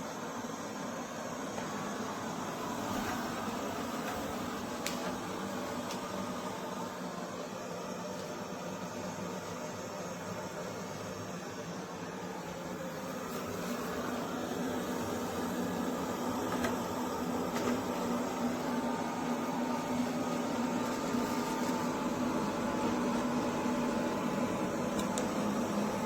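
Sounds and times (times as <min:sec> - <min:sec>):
robot vacuum cleaner running: 0:00.0 - 0:26.0.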